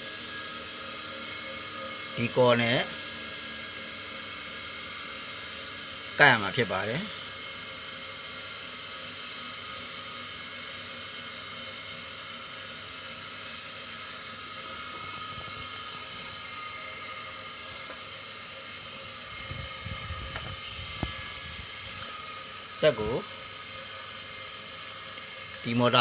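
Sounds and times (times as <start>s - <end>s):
background hiss and hum: 0.0s - 26.0s.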